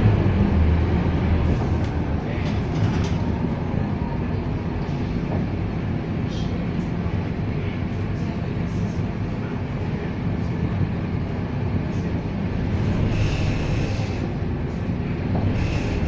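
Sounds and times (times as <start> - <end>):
bus diesel engine droning: 0.0 - 16.0.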